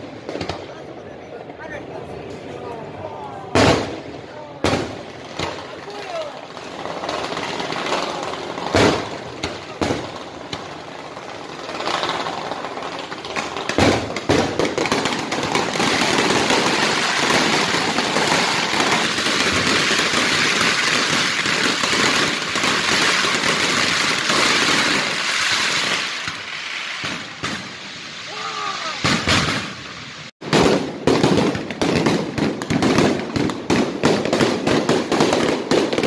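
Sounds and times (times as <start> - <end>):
fireworks crackling: 0.0 - 36.0
fireworks booming bursts: 3.5 - 36.0.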